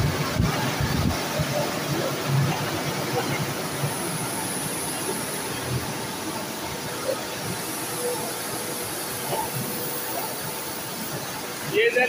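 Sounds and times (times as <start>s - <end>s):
machinery hissing: 0.0s - 12.0s.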